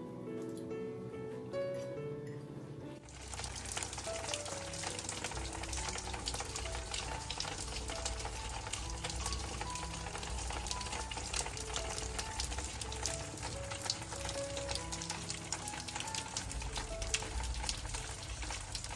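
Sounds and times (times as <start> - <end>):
soft melodic music: 0.0 - 18.9
food sizzling in a pan: 3.0 - 18.9.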